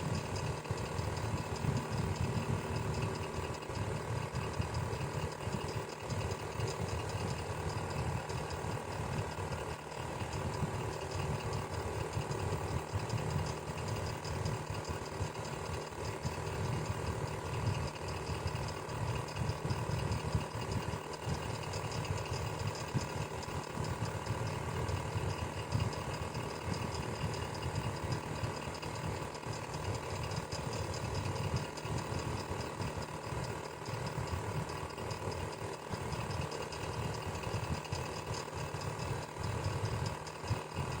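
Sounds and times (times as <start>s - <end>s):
electric fan running: 0.0s - 41.0s.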